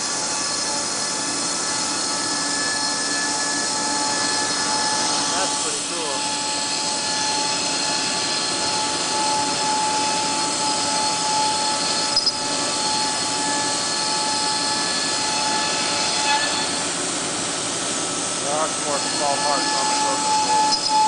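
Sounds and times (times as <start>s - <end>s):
router spindle whine: 0.0s - 21.0s
vacuum pump and dust collector drone: 0.0s - 21.0s.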